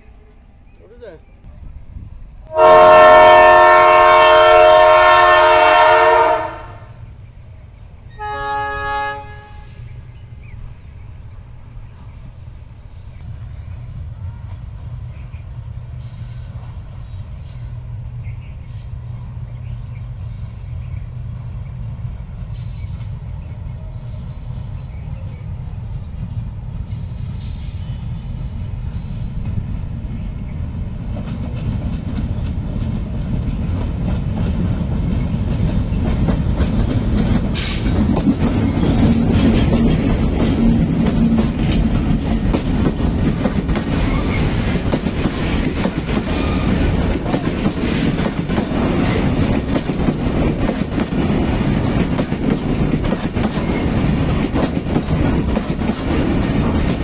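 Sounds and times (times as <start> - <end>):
freight train rumble: 0.0 - 57.0.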